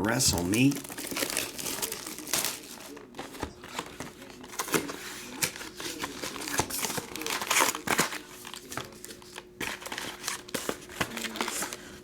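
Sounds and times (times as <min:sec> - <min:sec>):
wrappers crinkling and rustling: 0:00.0 - 0:12.0.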